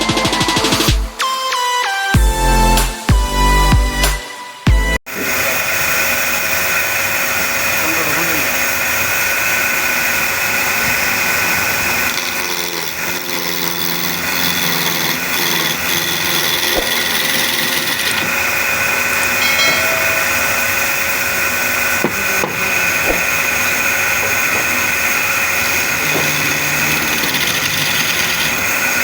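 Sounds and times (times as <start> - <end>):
wood lathe motor whine: 5.1 - 29.0.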